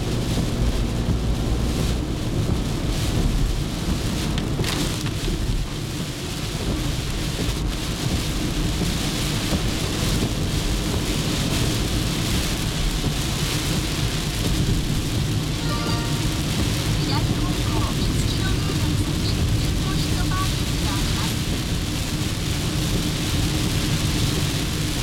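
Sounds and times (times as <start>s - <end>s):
heavy rain on car windshield: 0.0s - 25.0s
tyres rumbling on wet road: 0.0s - 25.0s.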